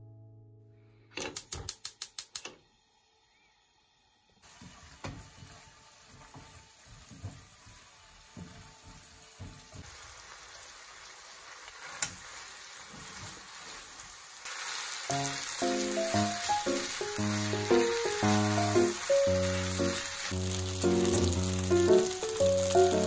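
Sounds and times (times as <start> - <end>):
meat sizzling in a frying pan: 4.4 - 23.0.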